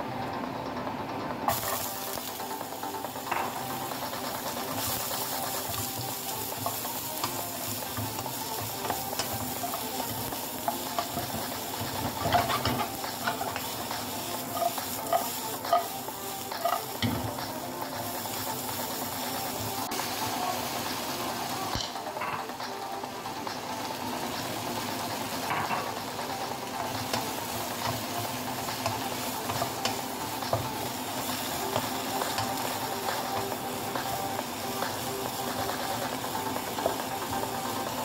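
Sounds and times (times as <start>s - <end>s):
onions sizzling in hot oil: 1.5s - 38.0s.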